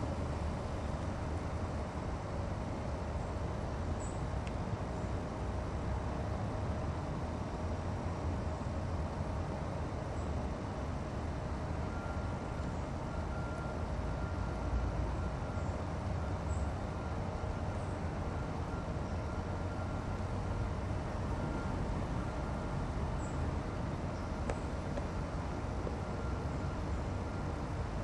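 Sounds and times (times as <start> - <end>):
faint steady hum: 0.0 - 28.0
low outdoor rumble: 0.0 - 28.0.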